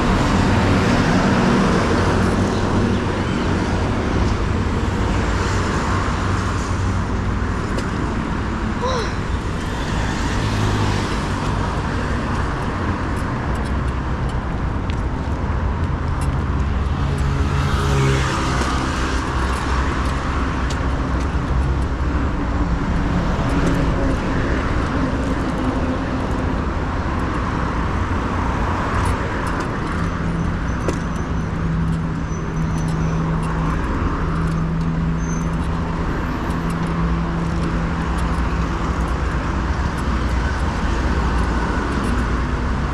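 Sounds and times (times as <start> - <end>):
road rumble: 0.0 - 42.9
vehicle engines passing: 0.0 - 42.9.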